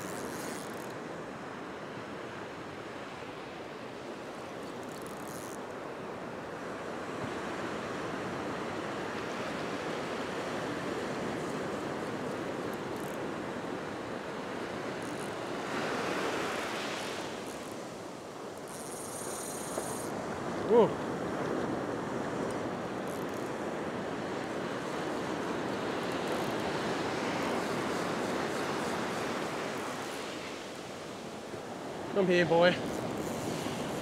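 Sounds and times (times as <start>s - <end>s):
ocean surf breaking on sand: 5.8s - 18.6s, 19.2s - 34.0s.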